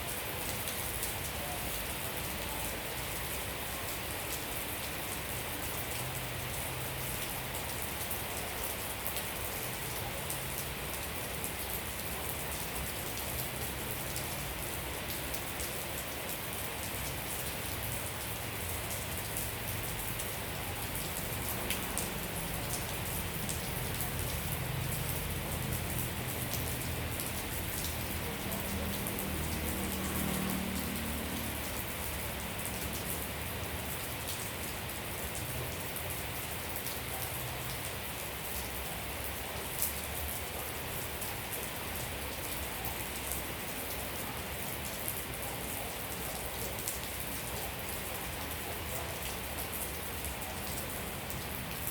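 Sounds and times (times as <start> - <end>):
steady rain falling: 0.0 - 51.9
raindrops tapping on surfaces: 3.9 - 51.9.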